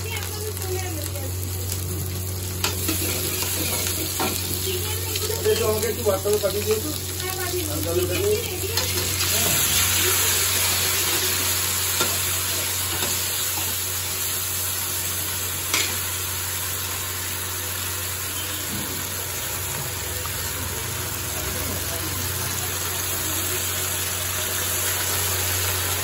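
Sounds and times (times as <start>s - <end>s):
vegetables sizzling in a wok: 0.0s - 26.0s.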